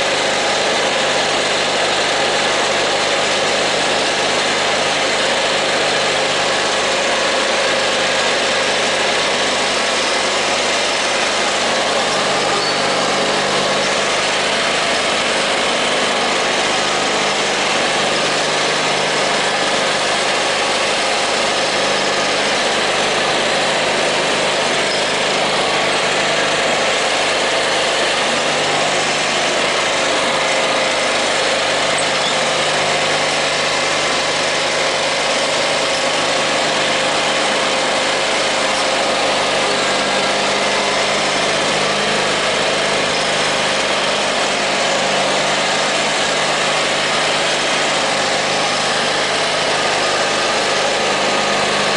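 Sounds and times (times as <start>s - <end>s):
garden tractor engine running: 0.0s - 51.9s.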